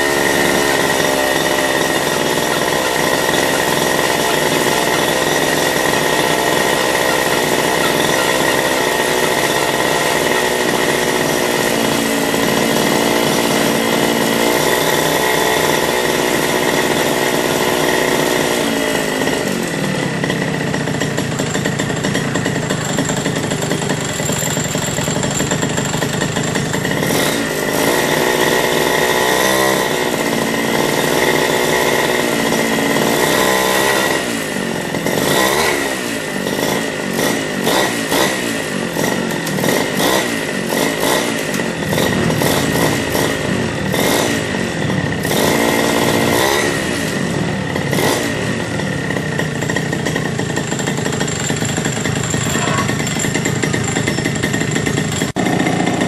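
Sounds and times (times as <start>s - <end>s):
small bike engine running: 0.0s - 56.0s.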